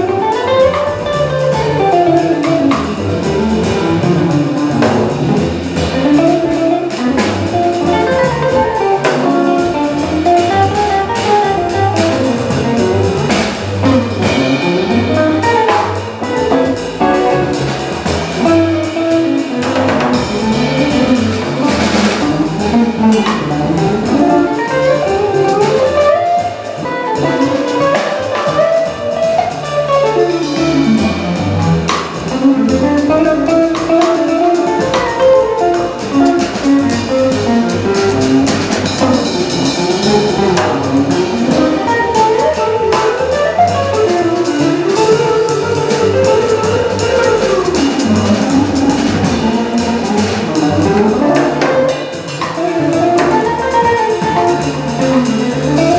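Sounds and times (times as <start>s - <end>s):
drum kit with cymbals: 0.0s - 55.9s
electric guitar melody: 0.0s - 55.9s
plucked upright bass: 0.0s - 55.9s.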